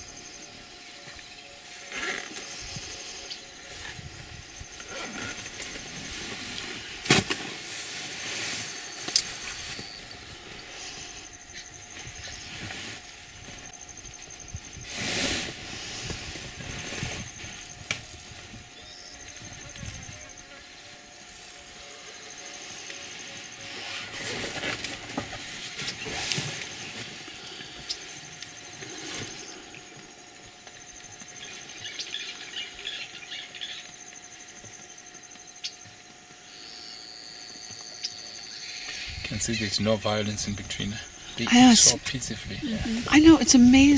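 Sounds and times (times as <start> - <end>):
hissing background: 0.0 - 43.9
insect-like trill: 0.0 - 43.9.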